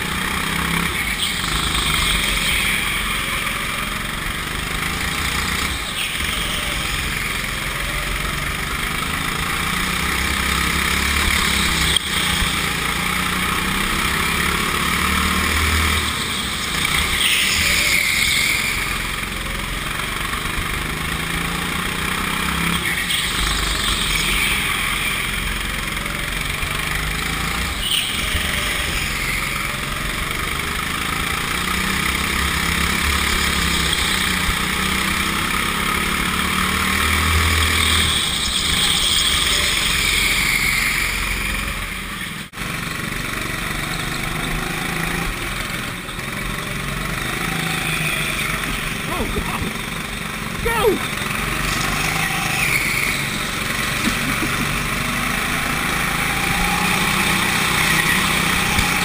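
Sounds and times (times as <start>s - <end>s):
go-kart engine under throttle: 0.0s - 59.0s.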